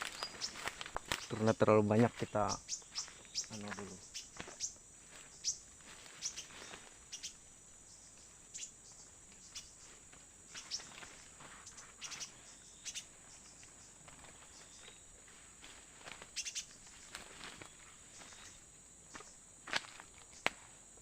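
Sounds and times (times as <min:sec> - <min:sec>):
bird chirping: 0:00.0 - 0:15.2, 0:16.3 - 0:19.4
insects droning: 0:00.0 - 0:21.0.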